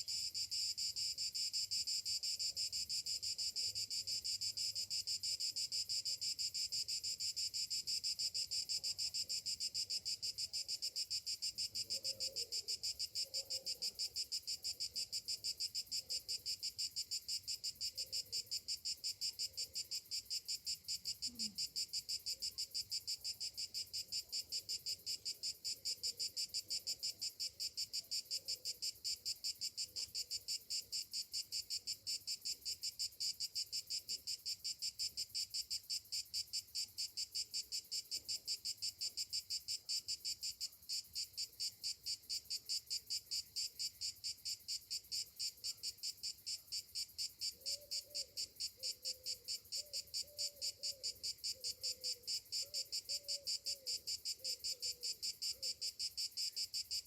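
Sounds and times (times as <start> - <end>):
cicadas singing: 0.0 - 57.0.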